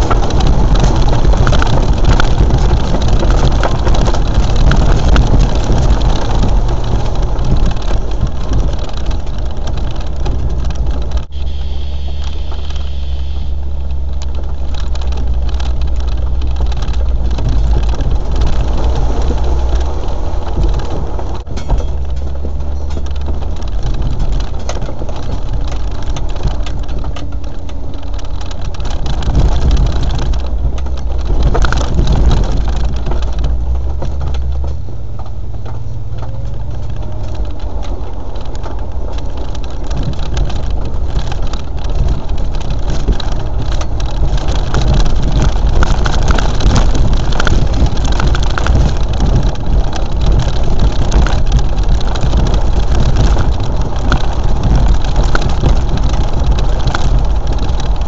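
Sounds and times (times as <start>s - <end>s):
engine running with low drone: 0.0s - 58.0s.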